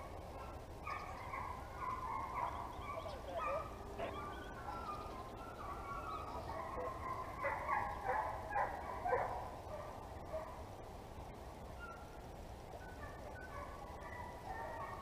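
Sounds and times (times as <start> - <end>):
hounds baying: 0.0 - 10.7, 12.7 - 15.0.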